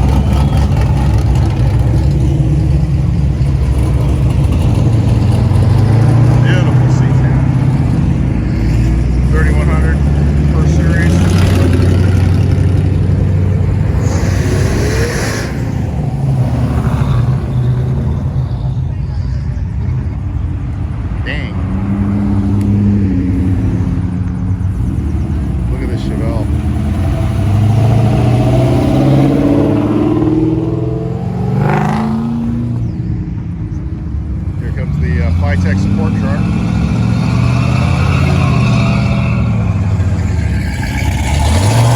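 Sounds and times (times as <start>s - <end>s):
passing cars and trucks rumbling: 0.0s - 41.9s.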